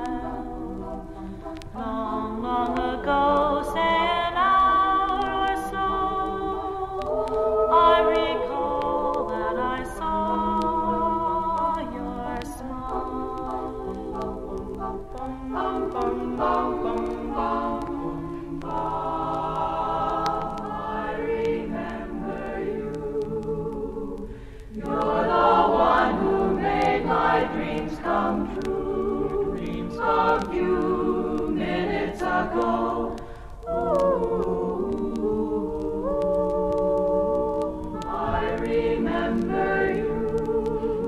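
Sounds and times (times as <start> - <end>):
women singing a cappella harmony: 0.0 - 41.0.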